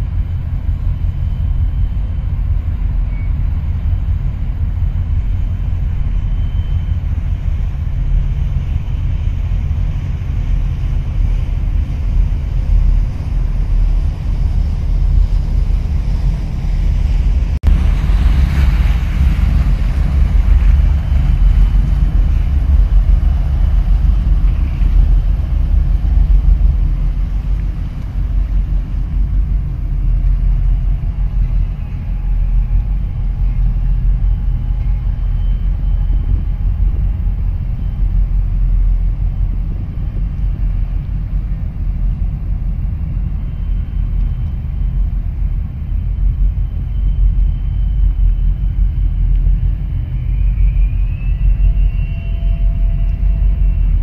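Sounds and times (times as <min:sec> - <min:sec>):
boat engine rumble: 0:00.0 - 0:54.0.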